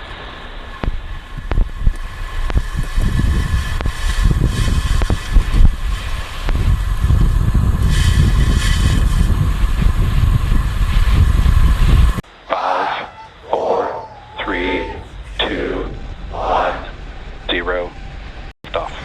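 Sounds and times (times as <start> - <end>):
rocket engines crackling rumble: 0.0 - 19.0.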